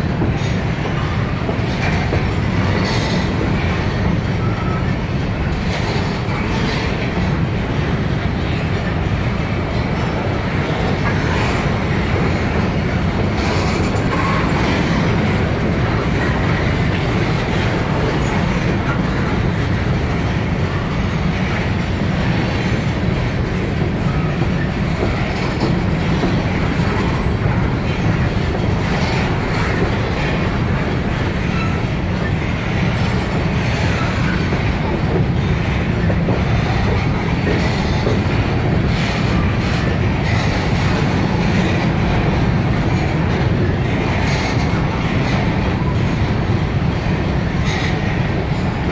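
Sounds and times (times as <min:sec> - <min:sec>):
steel wheels rumbling on rail: 0:00.0 - 0:48.9
wheels clicking over rail joints: 0:00.1 - 0:48.9.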